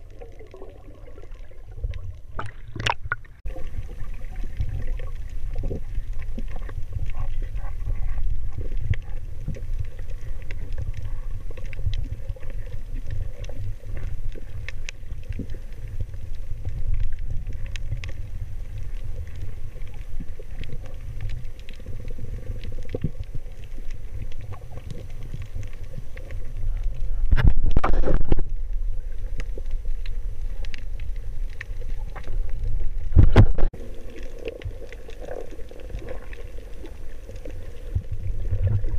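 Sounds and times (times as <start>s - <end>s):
faint crackling clicks: 0.0s - 38.9s
muffled underwater rumble: 0.0s - 38.9s.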